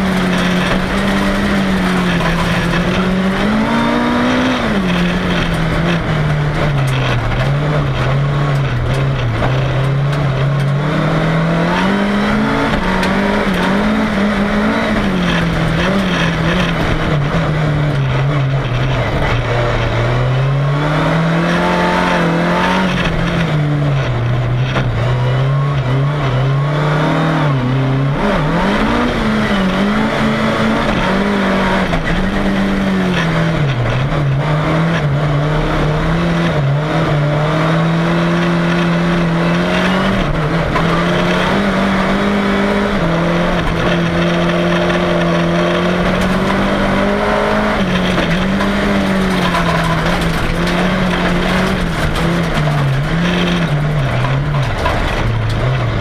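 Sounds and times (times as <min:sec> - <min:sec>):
car engine revving: 0:00.0 - 0:56.0
road and tyre noise: 0:00.0 - 0:56.0.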